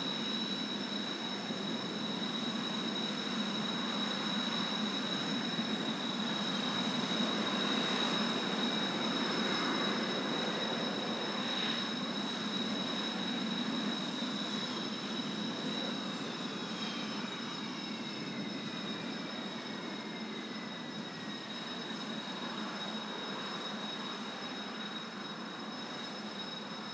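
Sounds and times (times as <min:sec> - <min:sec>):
jet aircraft flying overhead: 0:00.0 - 0:26.9.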